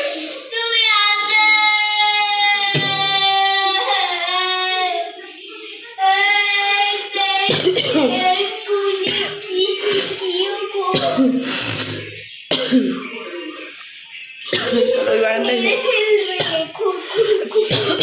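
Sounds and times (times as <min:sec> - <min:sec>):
child singing: 0:00.0 - 0:12.2, 0:14.4 - 0:18.0.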